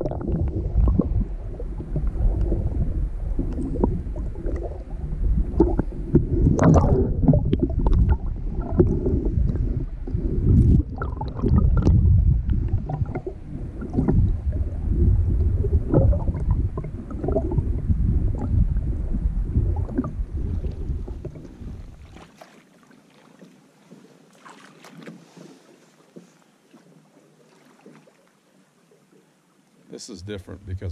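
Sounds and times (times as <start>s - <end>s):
water sloshing and splashing: 0.0s - 29.8s
faint river sound: 0.0s - 30.9s.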